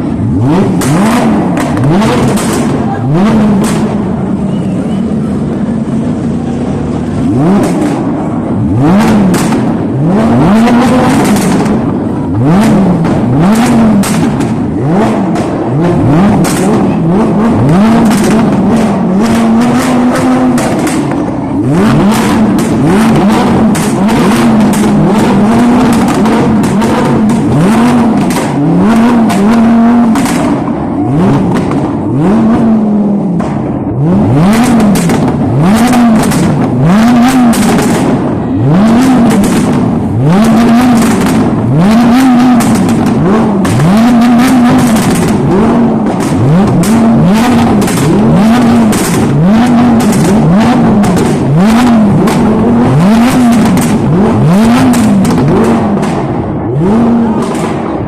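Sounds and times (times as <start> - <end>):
car engine revving: 0.0 - 58.0
exhaust crackles: 0.0 - 58.0.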